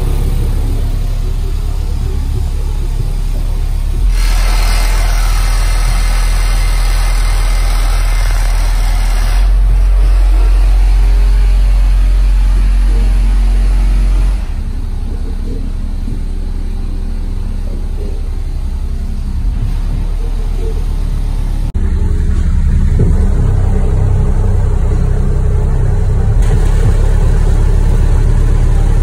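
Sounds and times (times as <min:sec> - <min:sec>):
bass-heavy music through subwoofer: 0:00.0 - 0:29.0.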